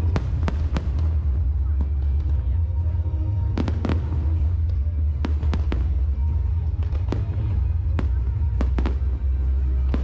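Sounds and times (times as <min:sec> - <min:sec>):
fireworks bangs and cracks: 0:00.0 - 0:02.5, 0:03.4 - 0:10.0
steady low rumble: 0:00.0 - 0:10.0.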